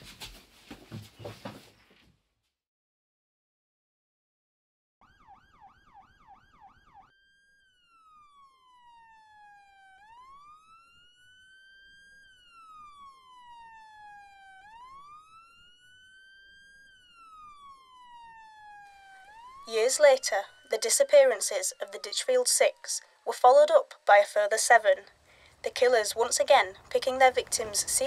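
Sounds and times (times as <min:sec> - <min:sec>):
police siren: 0:05.0 - 0:28.0.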